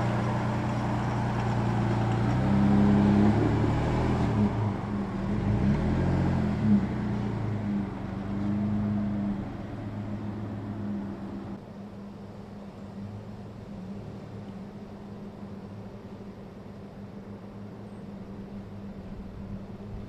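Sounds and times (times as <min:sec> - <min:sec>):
pickup engine running: 0:00.0 - 0:20.0.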